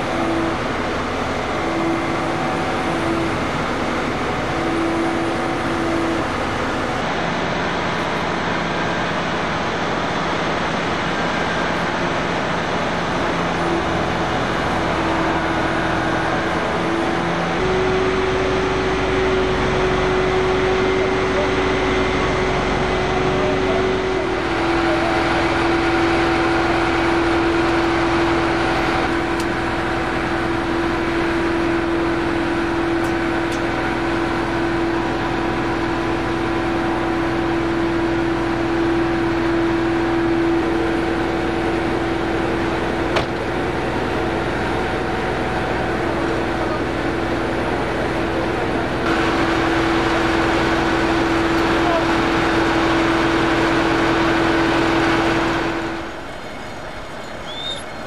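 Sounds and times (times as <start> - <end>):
deeper engine rumble: 0.0 - 58.0
heavy vehicle engines droning: 0.0 - 58.0.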